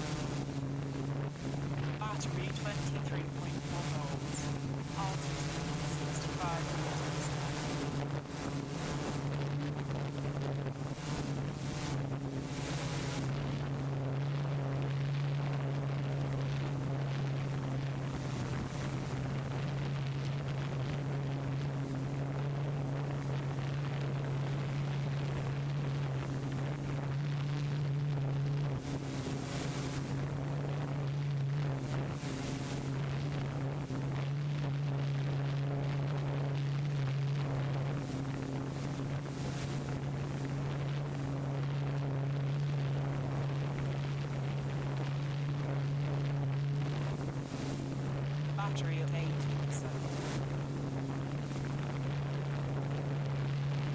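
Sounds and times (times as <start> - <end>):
drone propellers humming: 0.0 - 53.9.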